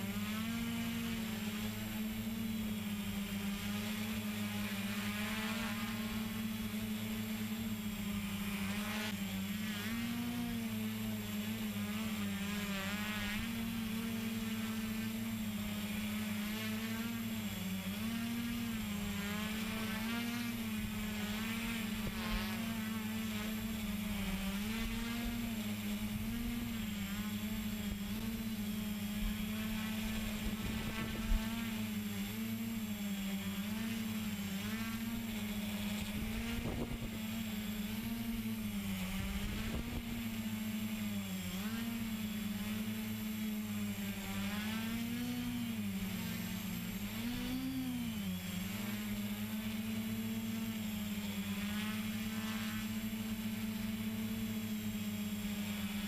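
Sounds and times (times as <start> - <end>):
quadcopter propellers buzzing: 0.0 - 56.0.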